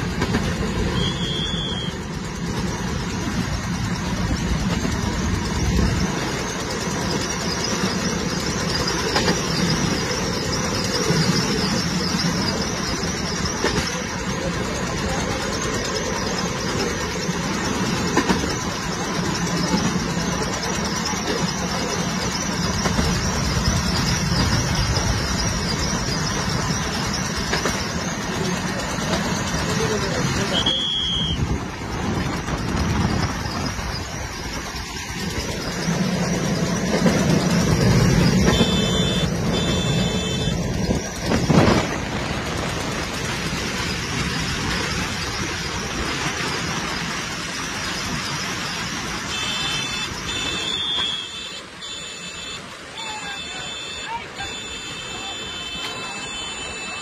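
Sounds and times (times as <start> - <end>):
high wheel squeal: 0.0 - 57.0
train wheels rumbling on rails: 0.0 - 57.0.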